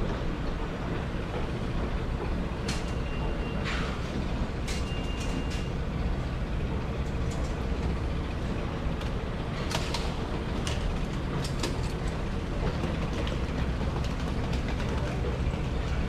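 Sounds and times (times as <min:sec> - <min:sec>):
subway station rumble: 0:00.0 - 0:16.0.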